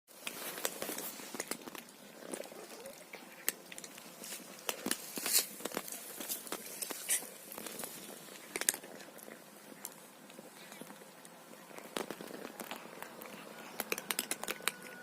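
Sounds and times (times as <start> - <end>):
cats crunching dry kibble: 0.1 - 15.0.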